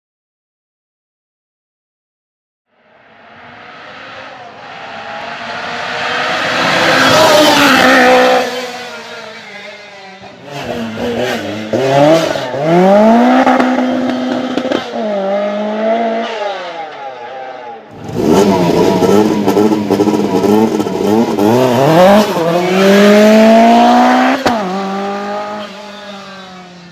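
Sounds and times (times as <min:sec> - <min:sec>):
car engine accelerating: 0:03.2 - 0:17.1, 0:17.9 - 0:26.9
engine revving while stationary: 0:03.4 - 0:16.9, 0:17.9 - 0:26.8.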